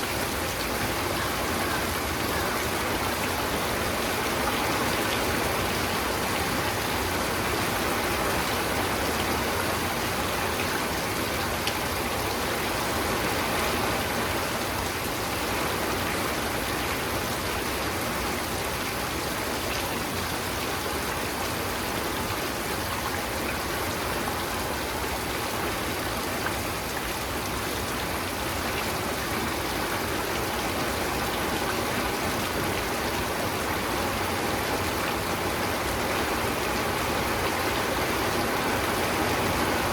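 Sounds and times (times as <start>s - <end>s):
individual raindrops: 0.0s - 39.9s
steady rain hiss: 0.0s - 39.9s.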